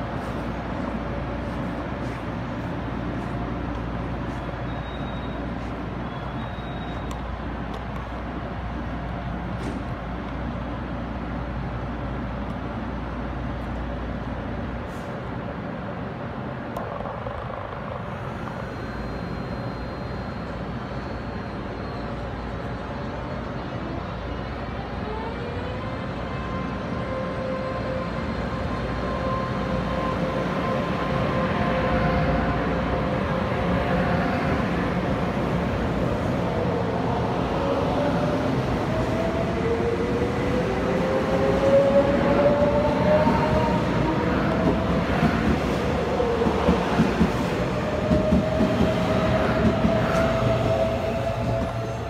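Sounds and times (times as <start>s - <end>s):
train running rumble: 0.0s - 52.0s.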